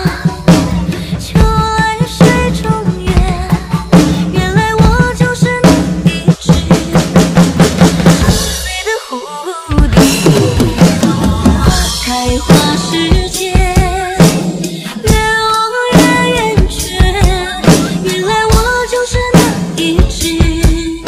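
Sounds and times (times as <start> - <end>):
drum kit playing: 0.0 - 21.0
pop backing track: 0.0 - 21.0.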